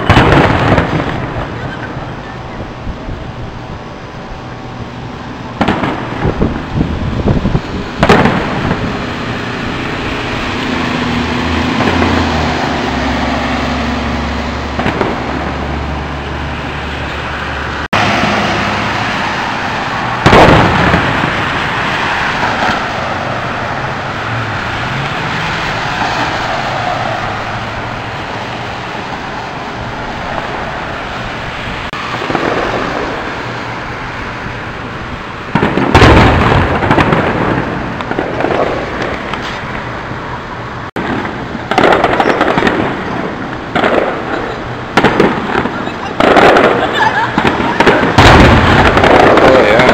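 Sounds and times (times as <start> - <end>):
outdoor din: 0.0 - 29.2, 35.4 - 49.9
fireworks exploding: 0.0 - 49.9.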